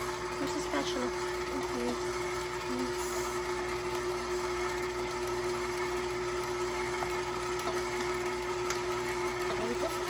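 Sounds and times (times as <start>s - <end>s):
stand mixer humming: 0.0s - 10.0s.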